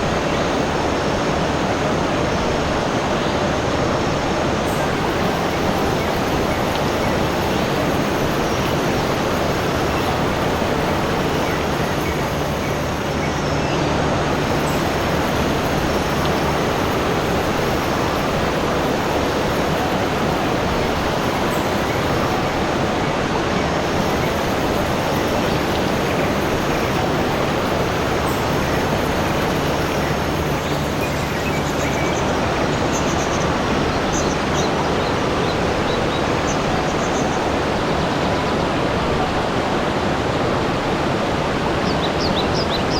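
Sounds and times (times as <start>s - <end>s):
rushing water: 0.0s - 42.9s.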